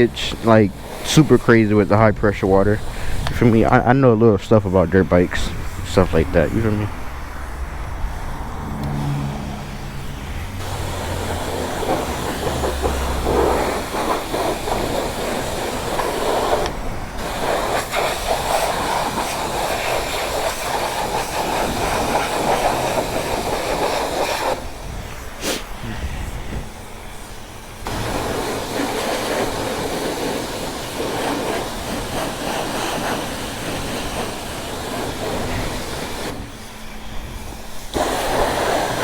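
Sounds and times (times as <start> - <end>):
pressure wand spraying water: 0.0 - 39.0.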